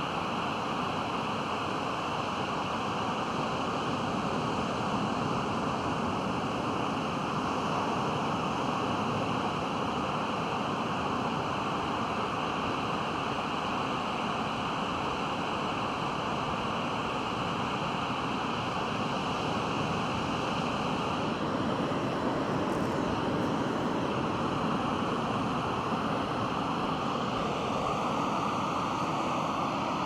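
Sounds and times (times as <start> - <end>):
waves breaking on a beach: 0.0 - 30.0.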